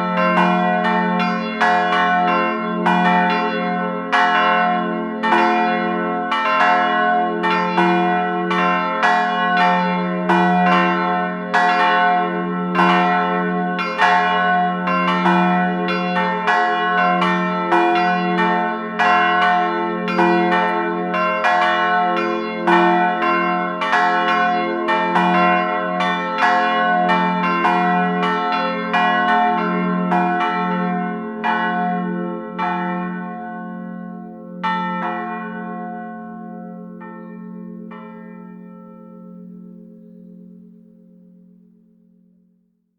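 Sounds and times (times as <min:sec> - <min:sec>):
church bells ringing: 0:00.0 - 0:42.3.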